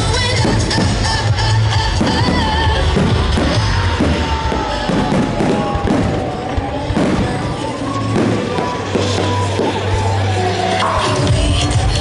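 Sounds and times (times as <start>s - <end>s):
bass-heavy music: 0.0s - 12.0s
fireworks bursting: 0.0s - 12.0s.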